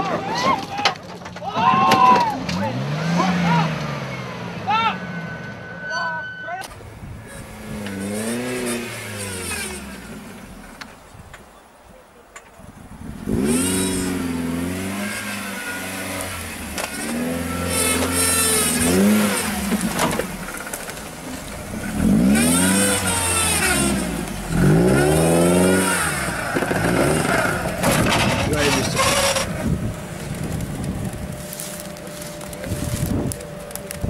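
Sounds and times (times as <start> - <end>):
off-road vehicle engine revving: 2.0 - 5.9, 6.6 - 11.0, 12.9 - 34.0.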